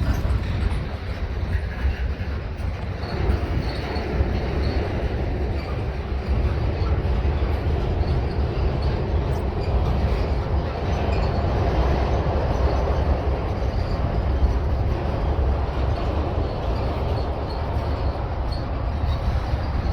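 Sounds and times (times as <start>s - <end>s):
high wheel squeaks: 0.0s - 19.9s
train rumbling on rails: 0.0s - 19.9s.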